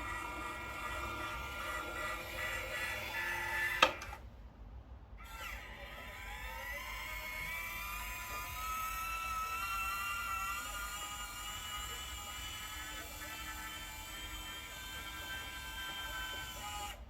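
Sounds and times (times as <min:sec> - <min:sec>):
toy truck electric motor whirring: 0:00.0 - 0:04.2, 0:05.2 - 0:17.0.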